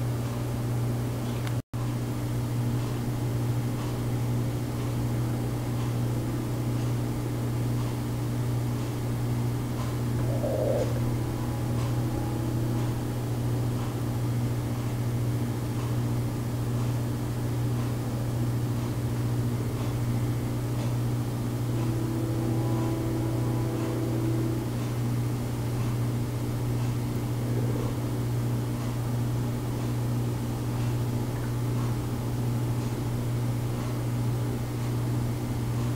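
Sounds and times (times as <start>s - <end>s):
low mechanical hum: 0.0s - 35.9s
faint steady drone: 3.1s - 33.4s.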